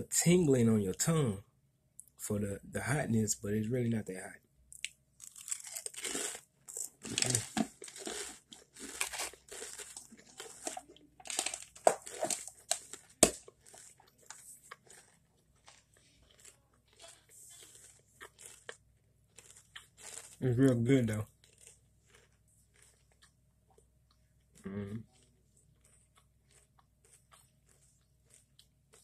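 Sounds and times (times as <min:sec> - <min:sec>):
crisps crunching while chewing: 0:04.8 - 0:29.0.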